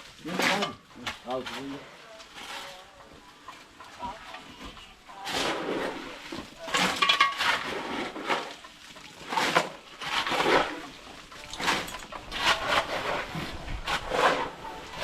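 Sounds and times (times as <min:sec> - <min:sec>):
shovels scraping concrete mix: 0:00.2 - 0:15.0.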